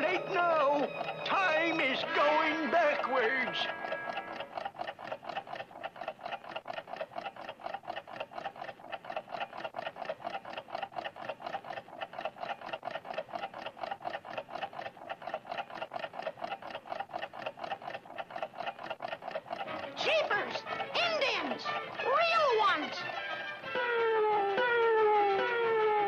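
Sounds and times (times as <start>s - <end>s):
rapid clock ticking: 0.0s - 26.0s.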